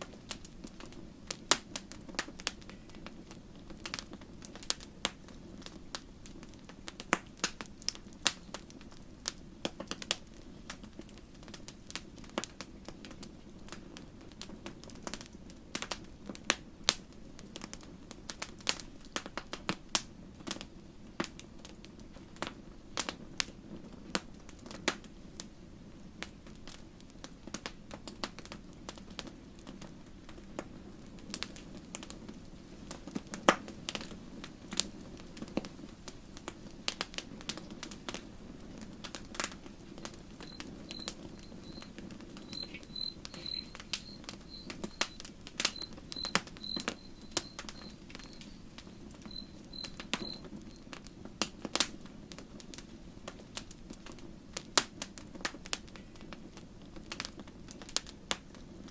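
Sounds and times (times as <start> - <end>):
campfire flame rushing: 0.0 - 58.9
fire crackling and popping: 0.0 - 58.9.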